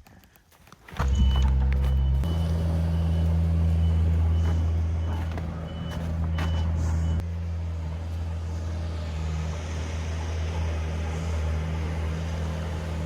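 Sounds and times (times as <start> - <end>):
large vehicle engine humming: 1.0 - 13.0.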